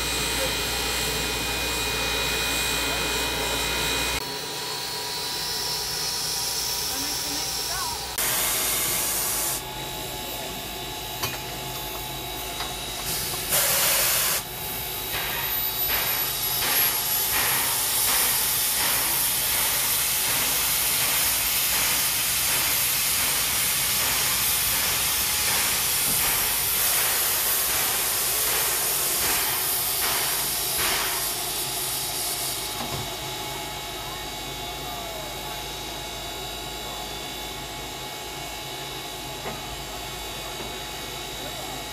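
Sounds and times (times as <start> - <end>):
steam locomotive hissing: 0.0 - 36.2.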